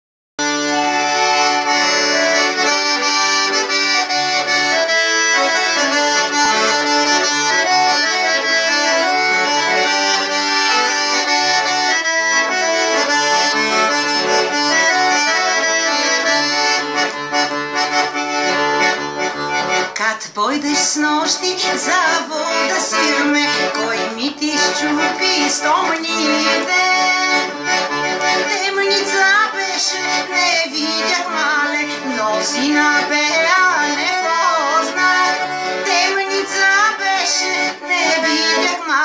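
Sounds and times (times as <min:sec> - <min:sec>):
accordion playing folk melody: 0:00.4 - 0:39.0.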